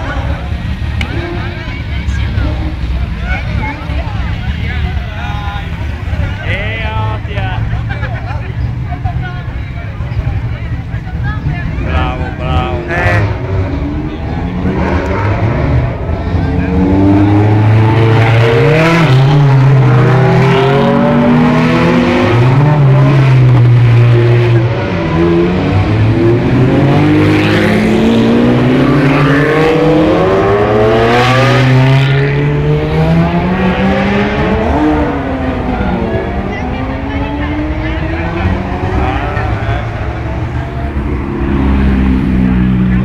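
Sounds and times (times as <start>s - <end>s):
sports cars driving past: 0.0s - 43.0s.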